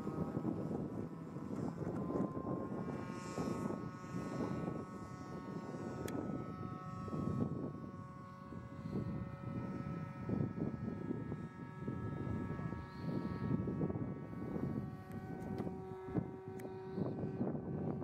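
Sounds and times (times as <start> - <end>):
model plane engine buzzing: 0.0 - 18.0
wind rumbling on microphone: 0.0 - 18.0.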